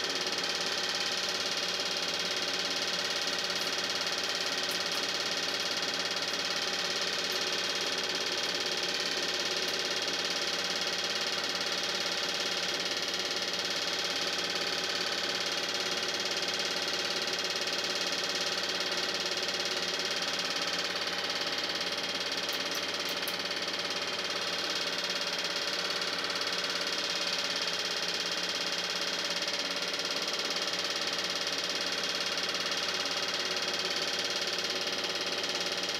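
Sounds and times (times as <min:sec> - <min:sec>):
film projector whirring: 0:00.0 - 0:35.9.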